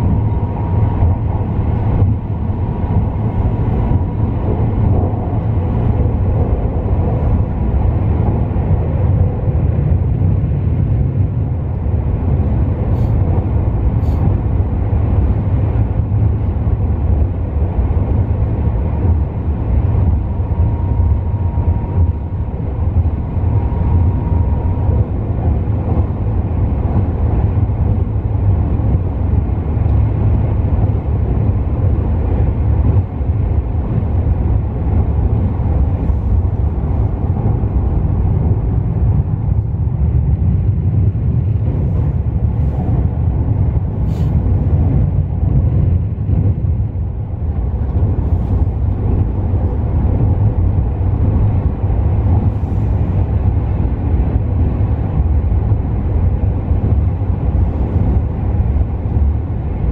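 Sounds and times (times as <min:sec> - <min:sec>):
train rumbling across bridge: 0:00.0 - 0:59.9.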